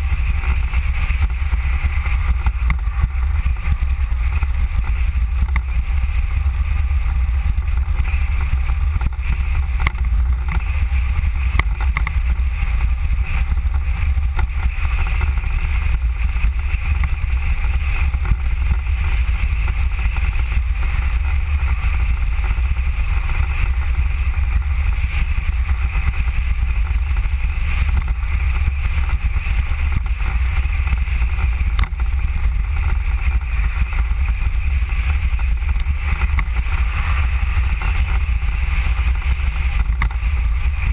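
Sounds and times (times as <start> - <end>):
vehicle rolling on asphalt: 0.0 - 40.9
wind and tyre hiss: 0.0 - 40.9.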